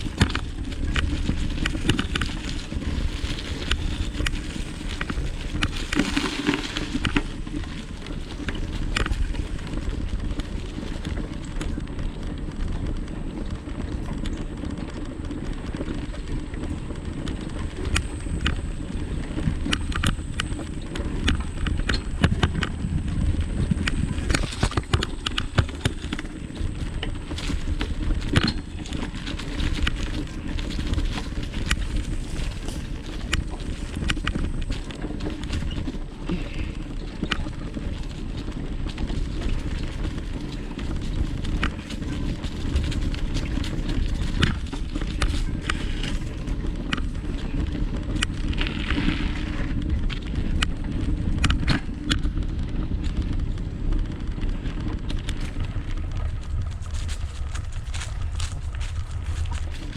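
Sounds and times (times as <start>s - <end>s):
bicycle rumbling on dirt trail: 0.0s - 59.9s
small clicks and rattles: 0.0s - 59.9s.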